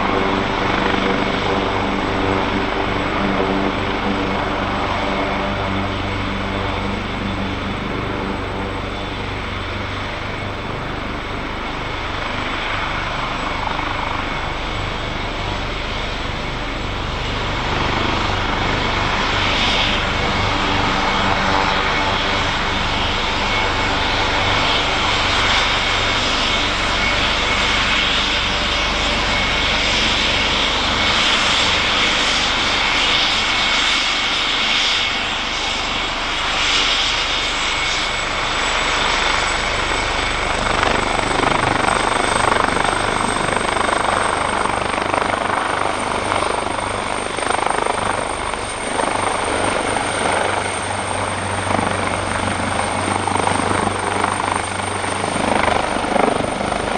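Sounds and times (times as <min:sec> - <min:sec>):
helicopter rotor beat: 0:00.0 - 0:56.9
helicopter turbine whine: 0:00.0 - 0:56.9.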